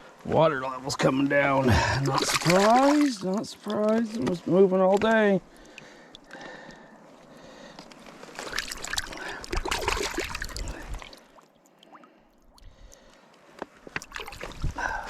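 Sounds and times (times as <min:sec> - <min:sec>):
water splashing and sloshing: 0:01.5 - 0:15.0.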